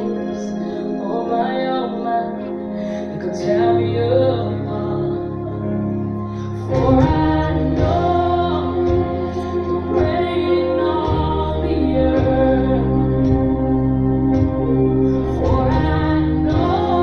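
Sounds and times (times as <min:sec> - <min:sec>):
gospel song with woman singing: 0:00.0 - 0:17.0.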